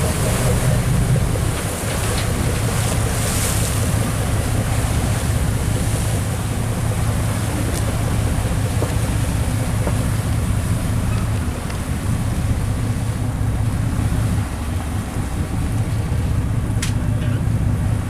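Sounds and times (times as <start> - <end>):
boat engine running: 0.0 - 18.0
rushing water: 0.0 - 18.0.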